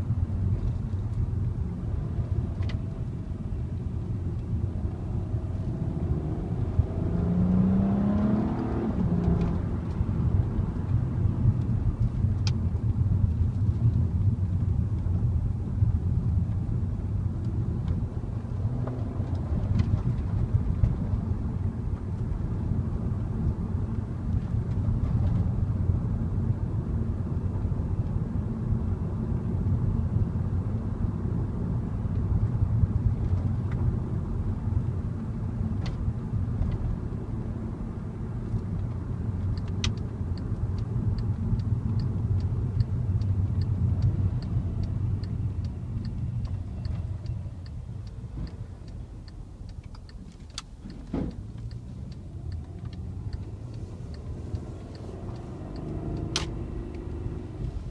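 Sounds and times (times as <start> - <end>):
car engine drone: 0.0 - 57.9
road noise: 0.0 - 57.9.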